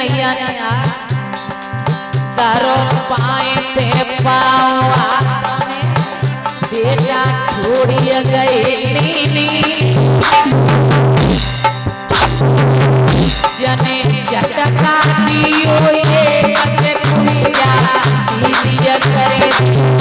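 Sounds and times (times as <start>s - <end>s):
harmonium melody: 0.0s - 20.0s
rattling percussion: 0.0s - 20.0s
hand drum beat: 1.9s - 20.0s.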